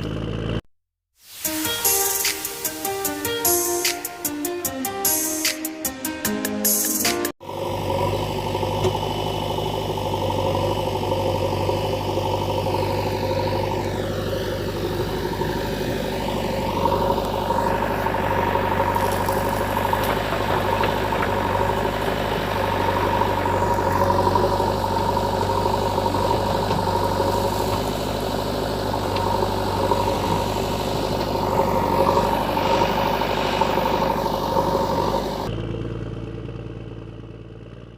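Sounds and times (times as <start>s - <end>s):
engine running: 0.0s - 0.7s, 1.3s - 37.9s.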